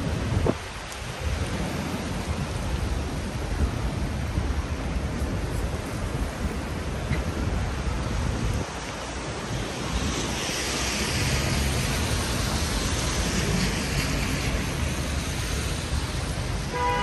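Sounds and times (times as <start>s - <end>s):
wind gusting against microphone: 0.0s - 17.0s.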